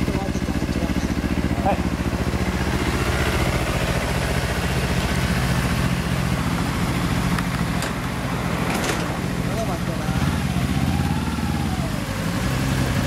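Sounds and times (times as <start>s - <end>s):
motorcycle engine idling: 0.0s - 13.0s
second motorcycle idling nearby: 0.0s - 13.0s.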